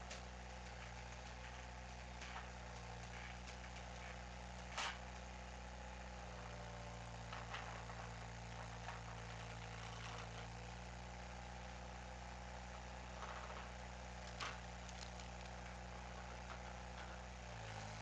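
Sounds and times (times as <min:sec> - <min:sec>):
skid steer engine idling: 0:00.0 - 0:18.0.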